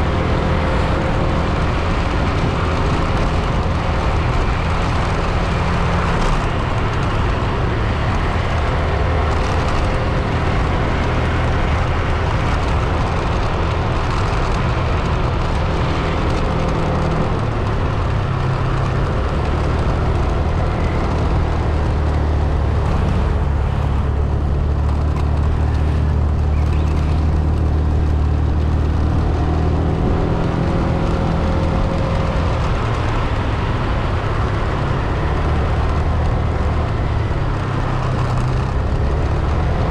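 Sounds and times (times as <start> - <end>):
car engine hum: 0.0 - 39.9
tyre road noise: 0.0 - 39.9.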